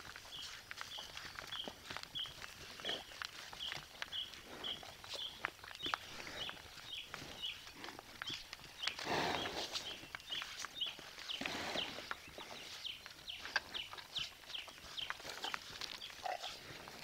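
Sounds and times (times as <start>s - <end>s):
cattle rustling and shuffling: 0.0s - 17.0s
small birds chirping: 0.0s - 17.0s.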